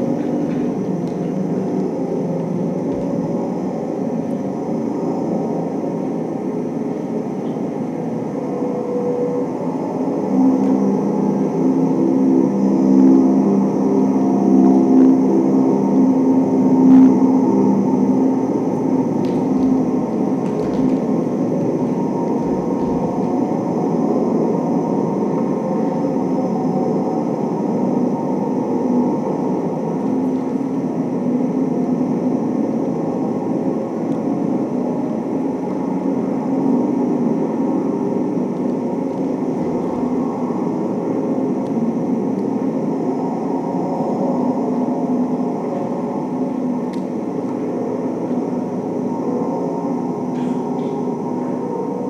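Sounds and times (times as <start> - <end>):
dense machine-like drone: 0.0 - 52.0.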